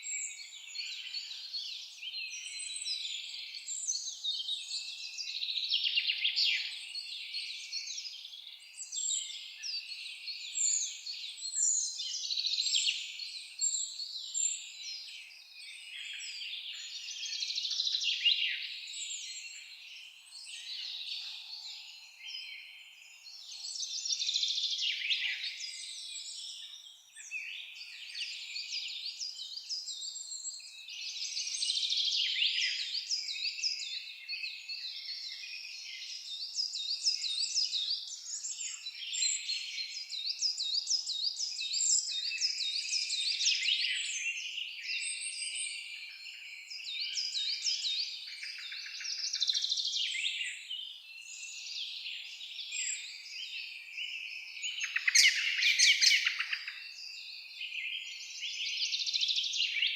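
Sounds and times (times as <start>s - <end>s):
birds singing and calling: 0.0s - 59.9s.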